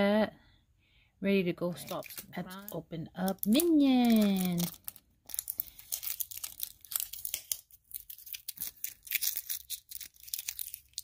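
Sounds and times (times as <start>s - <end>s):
wrapper tearing and crinkling: 1.8s - 11.0s.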